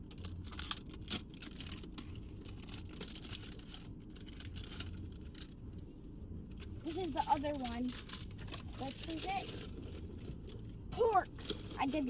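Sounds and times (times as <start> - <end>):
plastic packaging crinkling and tearing: 0.0 - 5.6, 6.6 - 12.0.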